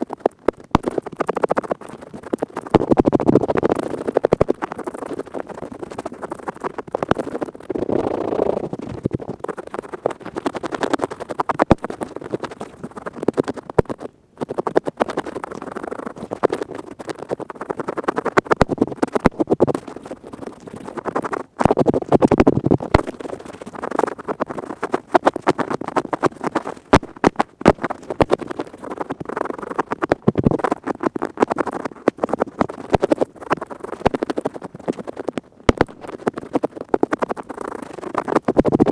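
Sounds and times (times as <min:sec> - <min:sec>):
earpick scratching rapidly: 0:00.0 - 0:38.9.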